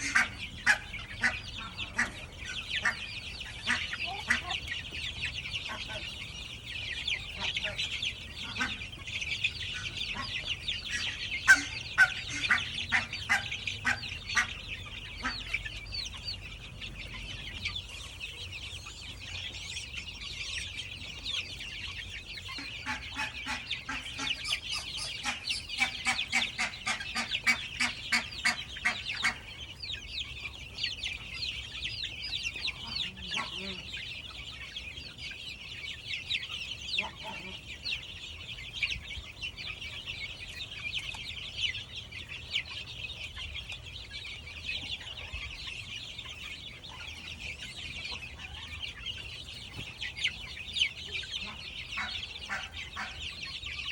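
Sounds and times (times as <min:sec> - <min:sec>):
chicks peeping: 0:00.0 - 0:53.9.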